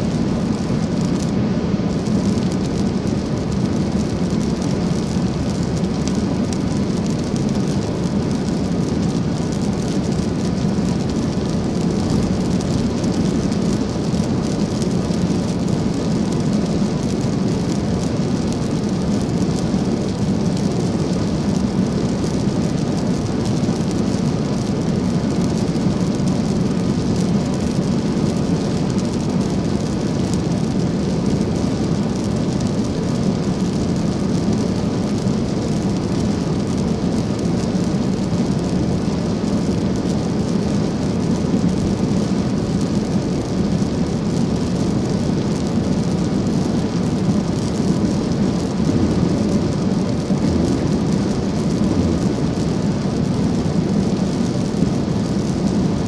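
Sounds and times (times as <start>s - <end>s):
low engine and road rumble: 0.0s - 56.0s
tyres hissing on wet road: 0.0s - 56.0s.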